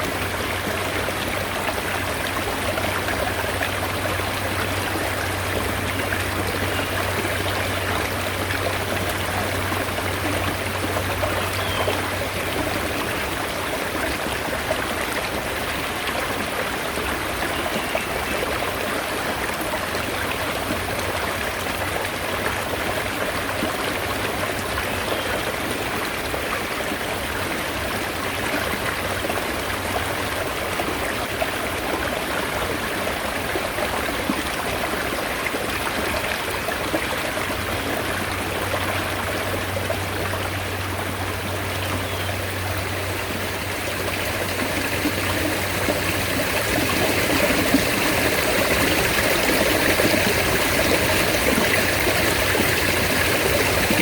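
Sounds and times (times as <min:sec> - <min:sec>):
mountain stream babbling: 0:00.0 - 0:54.0.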